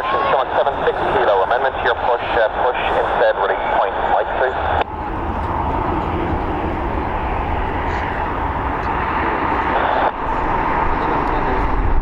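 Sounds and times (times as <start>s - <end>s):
jet airliner engines rumbling: 0.0s - 12.0s.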